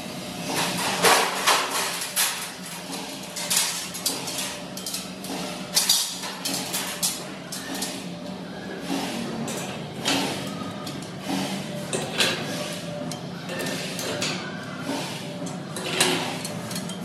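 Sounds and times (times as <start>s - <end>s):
metal shelving parts clanking: 0.4s - 17.0s.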